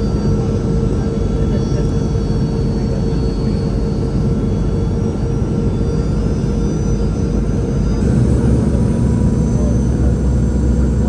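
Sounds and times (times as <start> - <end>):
airliner cabin roar: 0.0 - 11.0.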